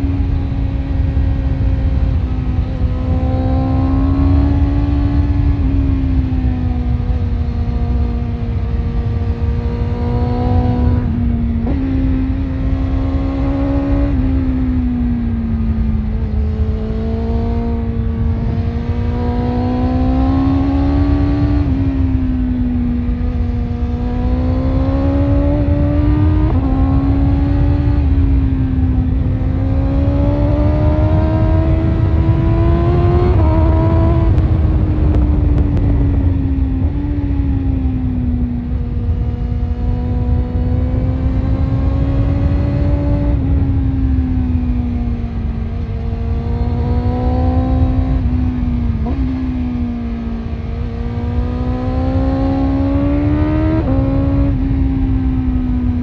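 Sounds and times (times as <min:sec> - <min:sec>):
motorcycle engine with gear changes: 0:00.0 - 0:56.0
wind rumble on microphone: 0:00.0 - 0:56.0.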